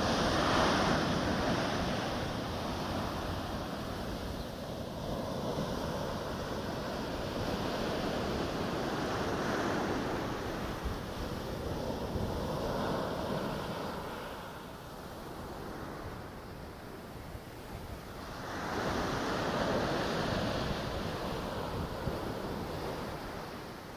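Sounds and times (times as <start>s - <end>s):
wind buffeting microphone: 0.0s - 23.8s
waves breaking on sand: 0.0s - 23.9s.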